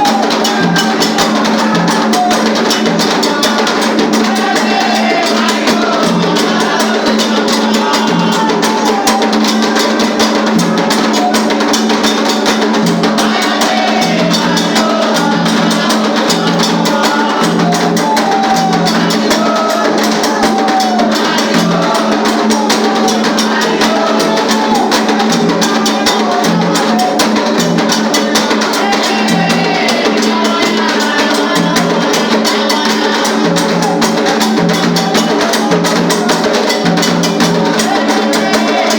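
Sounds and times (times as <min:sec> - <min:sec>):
hand drums playing: 0:00.0 - 0:38.9
voices singing a chant: 0:00.0 - 0:38.9.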